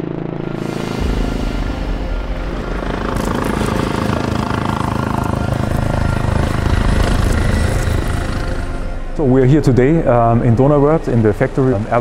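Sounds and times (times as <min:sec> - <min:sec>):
helicopter rotor beat: 0:00.0 - 0:12.0
helicopter turbine whine: 0:00.0 - 0:12.0.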